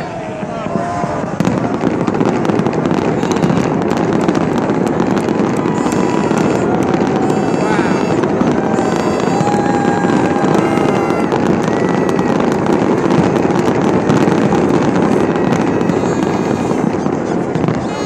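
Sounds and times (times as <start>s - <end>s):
fireworks crackling: 0.0s - 18.0s.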